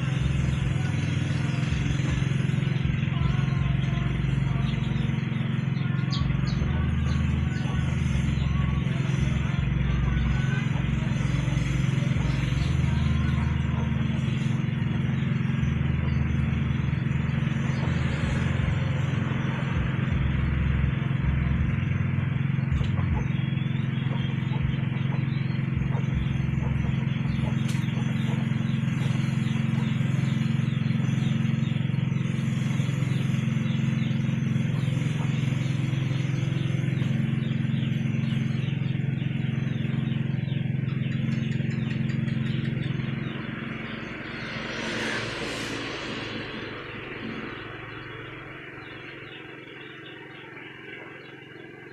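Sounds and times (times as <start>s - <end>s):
low mechanical hum: 0.0s - 51.9s.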